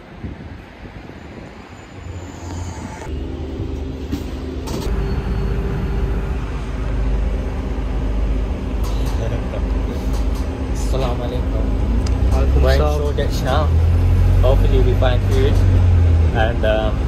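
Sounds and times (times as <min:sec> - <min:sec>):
bus engine hum: 0:00.0 - 0:17.0
outdoor street sound: 0:00.0 - 0:17.0
road rumble: 0:00.0 - 0:17.0.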